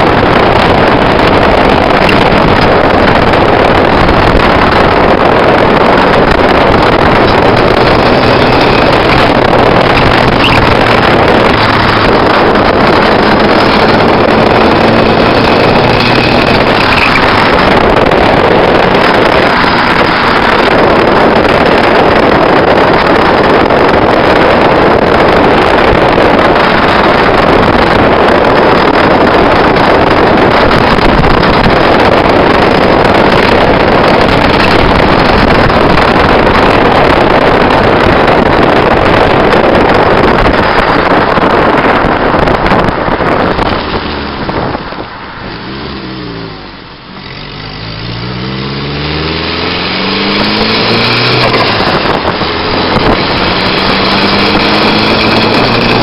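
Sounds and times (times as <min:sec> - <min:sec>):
road roar: 0:00.0 - 0:56.0
wind rush on microphone: 0:00.0 - 0:56.0.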